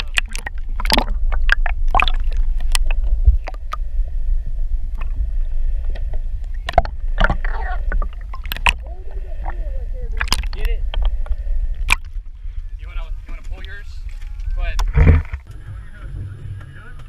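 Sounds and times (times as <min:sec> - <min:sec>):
faint high hum: 0:00.0 - 0:17.0
underwater rumble: 0:00.0 - 0:17.0.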